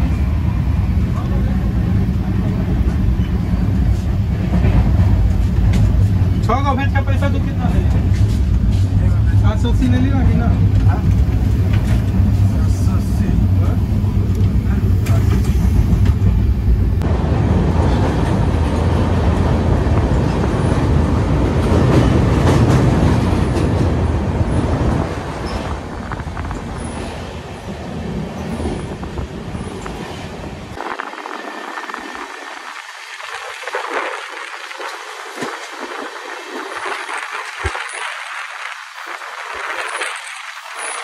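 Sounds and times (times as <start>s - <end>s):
passenger train rumbling: 0.0s - 41.0s
rushing noise: 0.0s - 41.0s.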